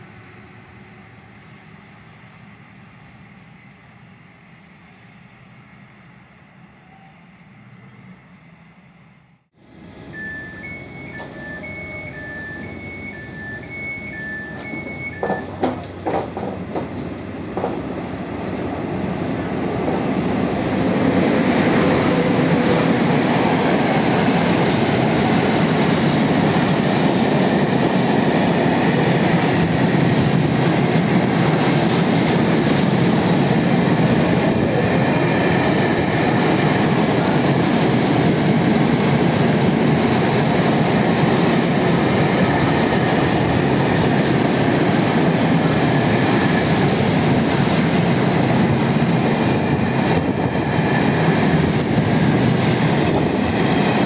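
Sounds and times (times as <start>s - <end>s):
electric locomotive passing: 0.0s - 54.0s.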